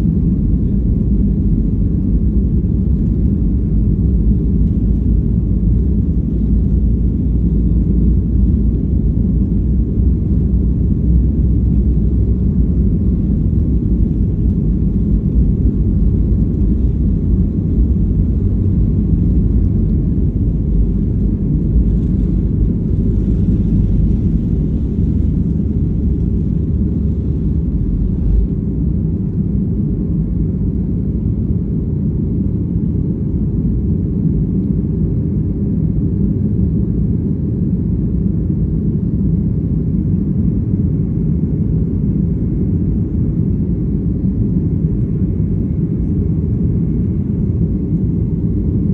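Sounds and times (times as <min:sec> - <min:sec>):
jet engines rumbling in cabin: 0:00.0 - 0:48.9.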